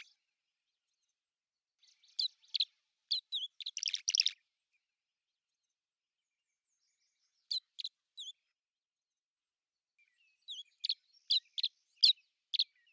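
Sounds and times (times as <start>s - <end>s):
small bird singing: 0.0s - 12.9s.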